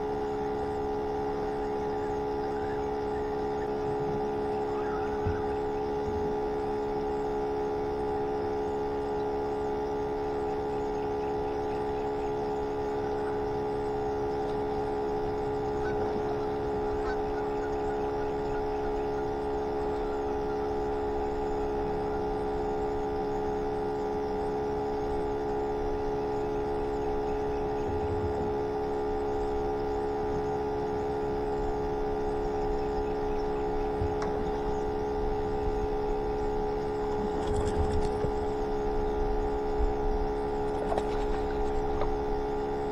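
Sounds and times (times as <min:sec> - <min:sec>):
pump whine: 0:00.0 - 0:42.9.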